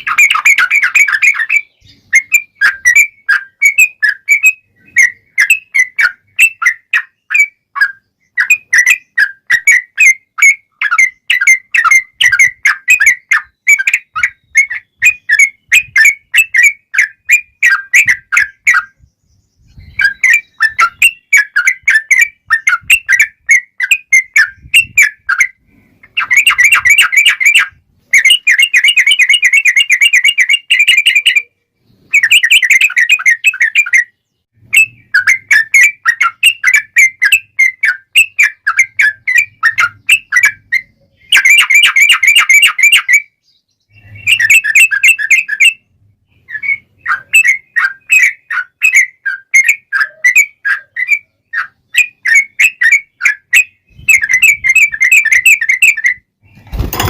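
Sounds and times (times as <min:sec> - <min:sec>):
bird singing chattering trills: 0:00.0 - 0:57.0.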